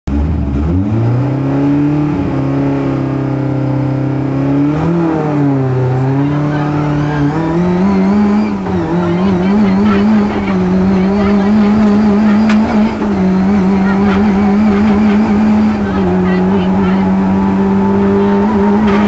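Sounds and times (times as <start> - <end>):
rally car engine revving: 0.1 - 19.0.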